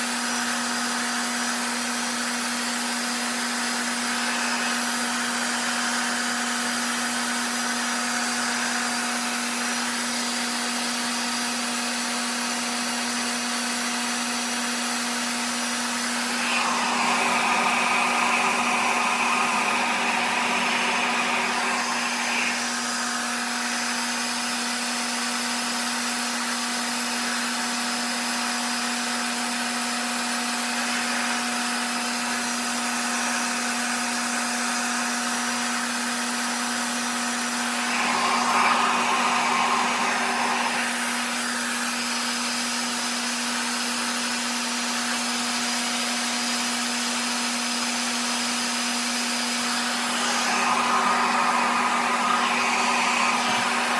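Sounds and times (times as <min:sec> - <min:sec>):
blow dryer running: 0:00.0 - 0:53.9.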